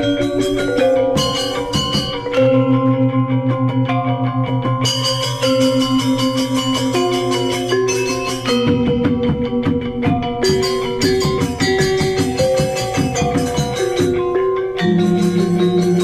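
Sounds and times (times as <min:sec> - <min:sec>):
tuned mallet percussion music: 0:00.0 - 0:16.0.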